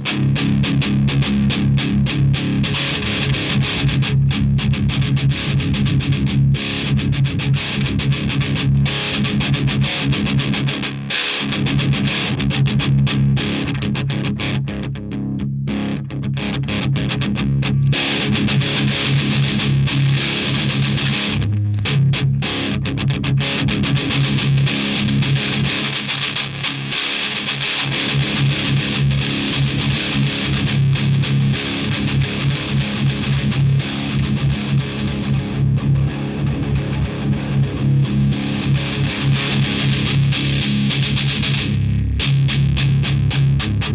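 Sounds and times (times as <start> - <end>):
heavily distorted electric guitar: 0.0 - 43.9.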